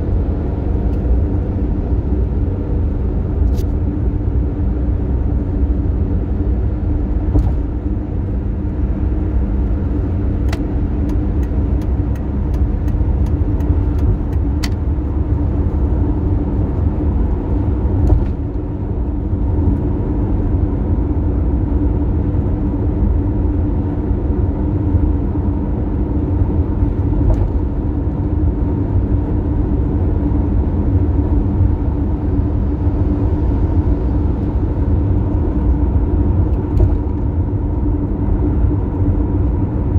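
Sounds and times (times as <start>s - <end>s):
droning hum: 0.0s - 39.9s
road and engine rumble: 0.0s - 39.9s.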